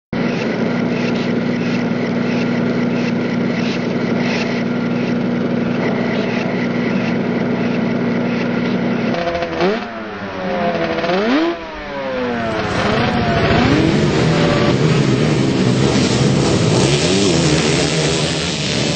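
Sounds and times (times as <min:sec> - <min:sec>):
quad engines droning and revving: 0:00.2 - 0:18.9.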